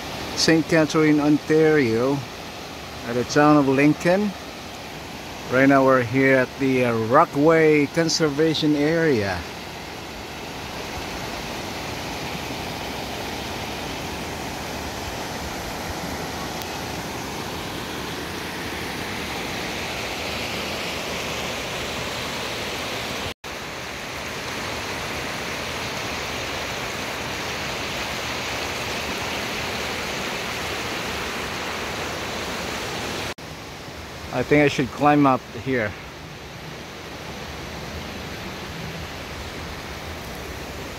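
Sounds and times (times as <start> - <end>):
water rushing over stones: 0.0 - 40.9.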